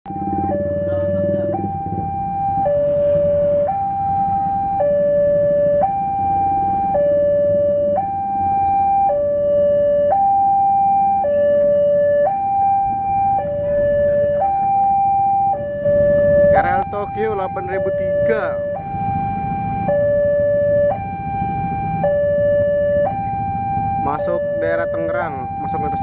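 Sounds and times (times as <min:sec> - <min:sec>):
road traffic rumble: 0:00.0 - 0:26.0
level-crossing alarm two-tone: 0:00.1 - 0:26.0.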